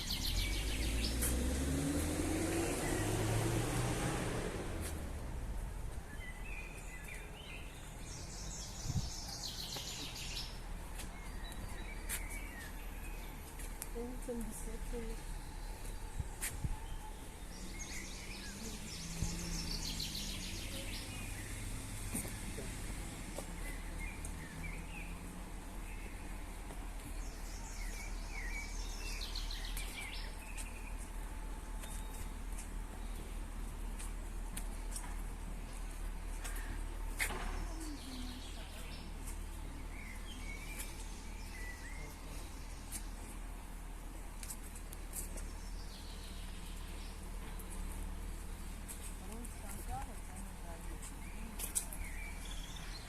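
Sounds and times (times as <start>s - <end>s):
outdoor background noise: 0.0s - 53.0s
small birds chirping: 0.0s - 53.0s.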